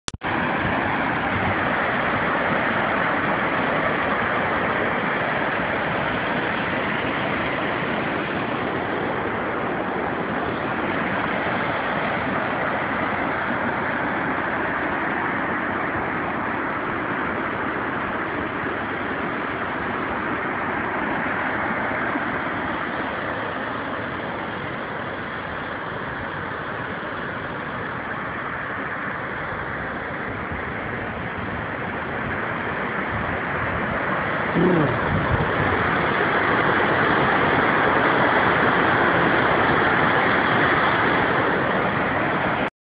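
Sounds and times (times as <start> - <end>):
water rushing down spillway: 0.2 - 42.7.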